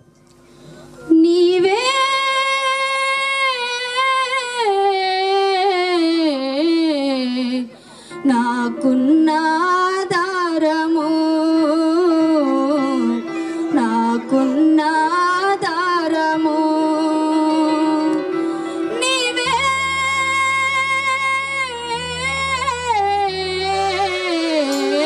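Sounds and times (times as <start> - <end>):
woman singing into microphone: 1.1 - 25.0.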